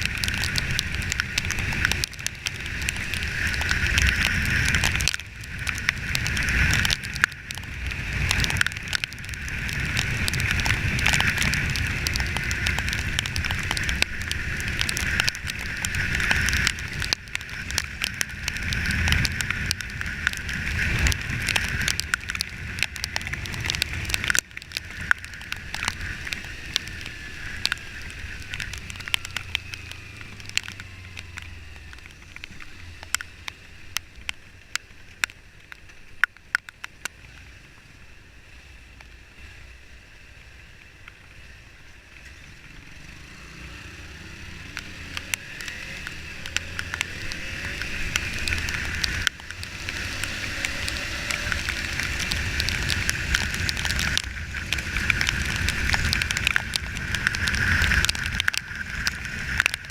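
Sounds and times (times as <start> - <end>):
sharp clicks and taps: 0.0 - 37.2, 44.7 - 59.9
wind and road noise: 0.0 - 59.9.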